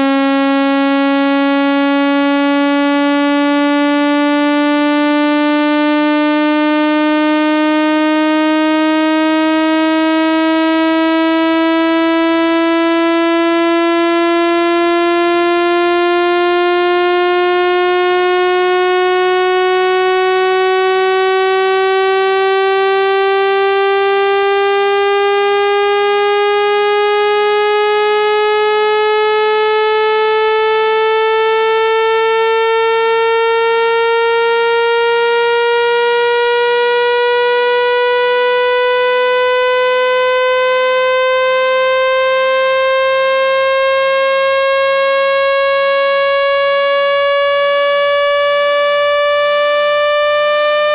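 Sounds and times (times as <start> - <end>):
buzzy electronic tone rising: 0.0 - 50.9.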